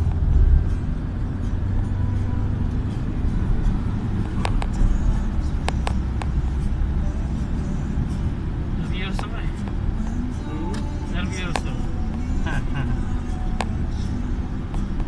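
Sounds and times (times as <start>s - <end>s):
car road noise rumble: 0.0s - 15.0s.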